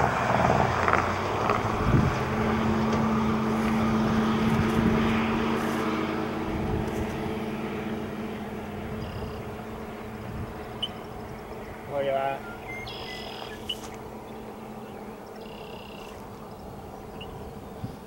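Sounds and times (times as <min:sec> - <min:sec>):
low engine hum: 0:00.0 - 0:18.0
vehicle tyre and engine noise: 0:00.0 - 0:18.0.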